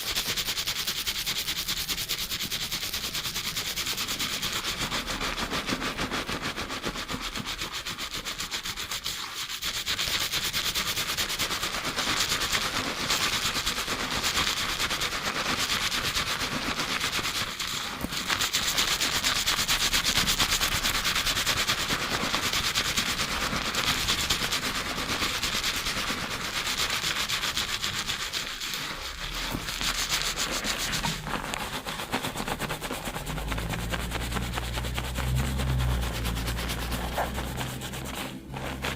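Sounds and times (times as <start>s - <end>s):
fingertips scrubbing lathered scalp: 0.0s - 38.9s.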